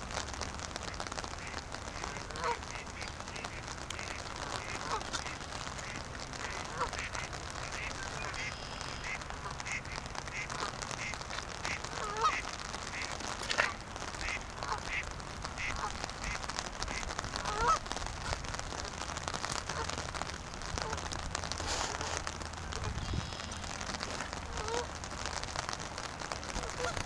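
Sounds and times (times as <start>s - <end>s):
rain pattering: 0.0s - 27.0s
geese honking: 0.8s - 25.3s, 26.5s - 27.0s.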